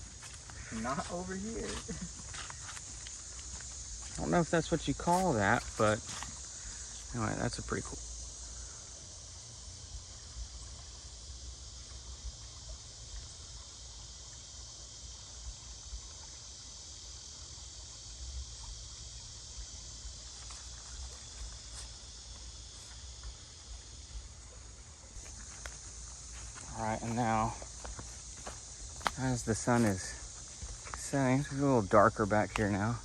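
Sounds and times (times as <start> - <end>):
insects shrilling: 0.0 - 33.0.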